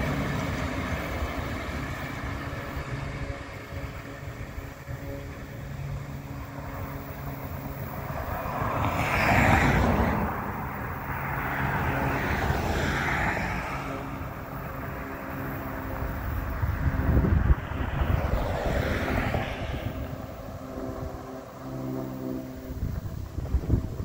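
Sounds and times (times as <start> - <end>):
train wheels rumbling on rail: 0.0 - 19.5
wind gusts on microphone: 0.0 - 24.0.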